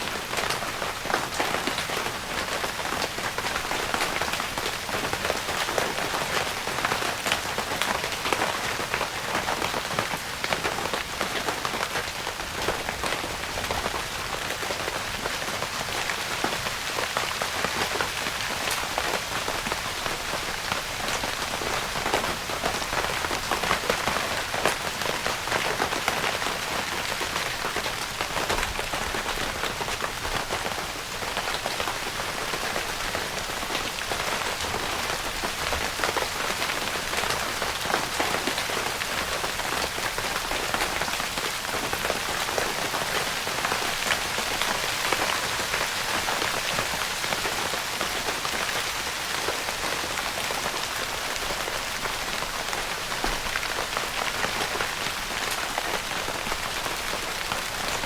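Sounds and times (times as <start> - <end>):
rain pattering on a tent: 0.0 - 58.0.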